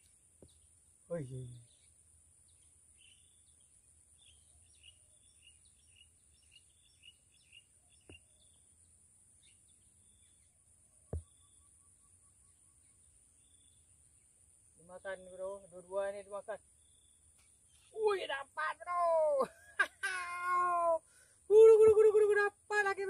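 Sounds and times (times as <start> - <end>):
bird chirping: 0.0 - 18.7.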